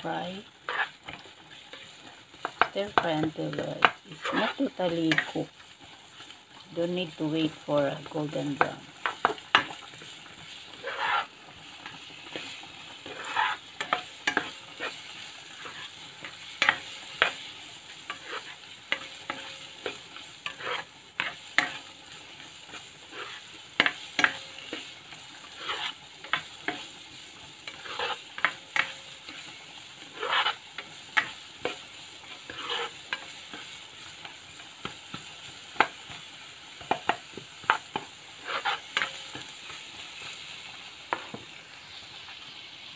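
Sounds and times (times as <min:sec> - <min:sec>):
spatula scraping frying pan: 0:00.0 - 0:40.5
onions sizzling in oil: 0:00.0 - 0:42.9.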